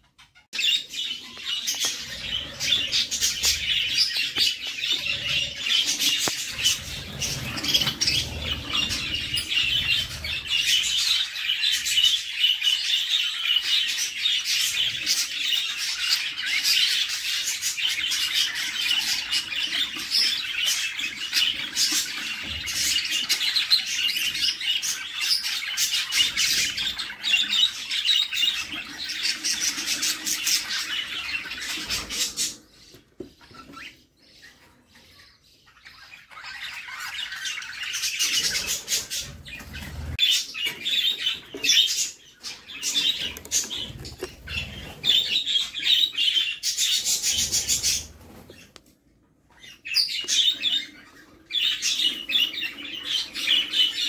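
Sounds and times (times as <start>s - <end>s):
bird chicks chirping: 0.0s - 54.0s.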